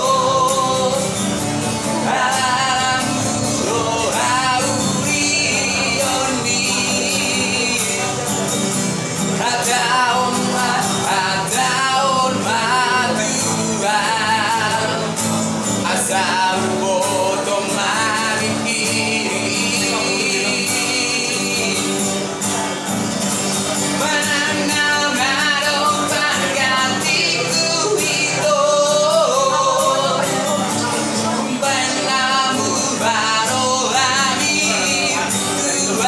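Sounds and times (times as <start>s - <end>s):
person singing with vibrato: 0.0s - 36.0s.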